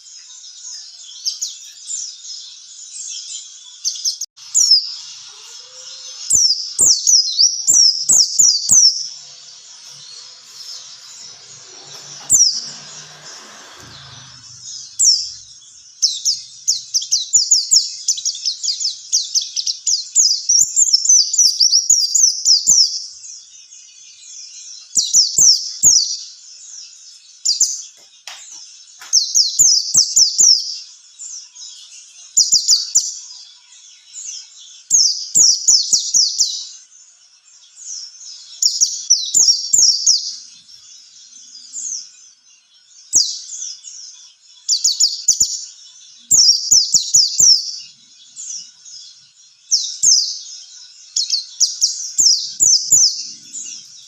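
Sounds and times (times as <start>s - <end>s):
bird singing high chirps: 0.0s - 54.0s.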